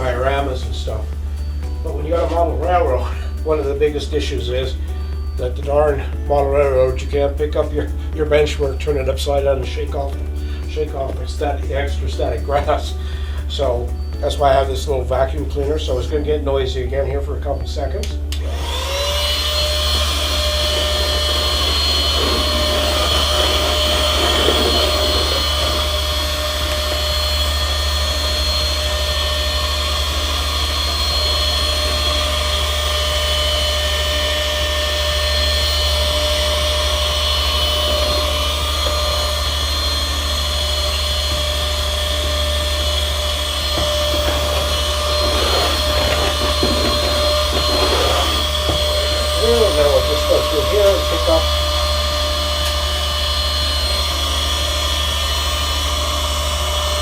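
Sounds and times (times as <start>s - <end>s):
small vacuum cleaner whining: 0.0s - 57.0s.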